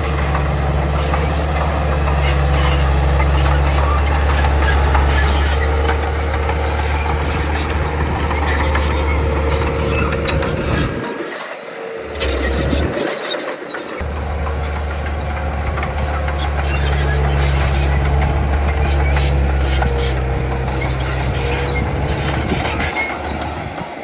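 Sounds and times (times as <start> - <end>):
diesel engine droning: 0.0 - 24.0
high squeaks: 0.0 - 24.0
track clanks: 0.0 - 24.0.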